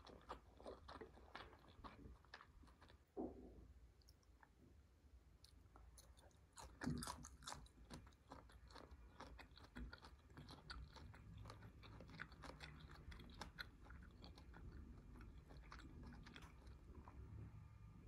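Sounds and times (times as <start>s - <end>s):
faint chewing clicks: 0.0s - 3.2s, 4.0s - 4.6s, 5.4s - 17.5s.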